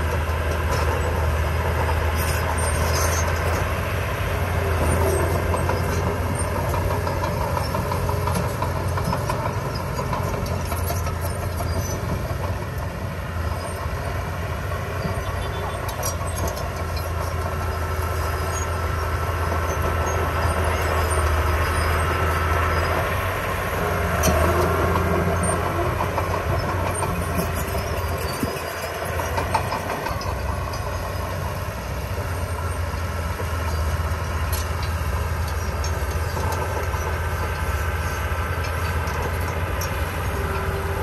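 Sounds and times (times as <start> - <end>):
construction machinery engine drone: 0.0 - 41.0.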